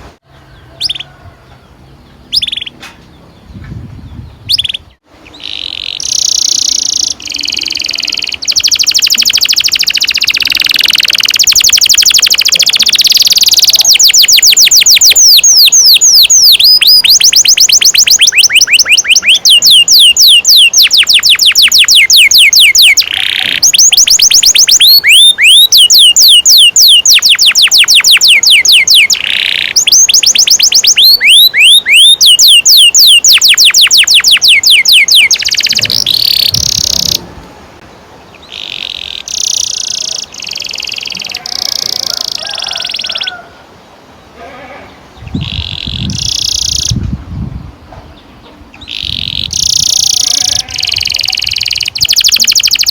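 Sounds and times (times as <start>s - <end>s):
canary singing trills: 0.3s - 37.2s, 38.2s - 43.5s, 44.3s - 52.9s.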